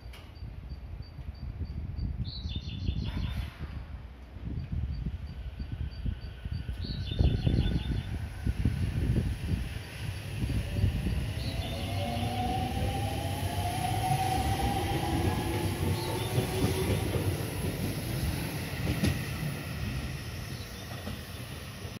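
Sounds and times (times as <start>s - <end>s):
wheels rumbling on rails: 4.1s - 22.0s.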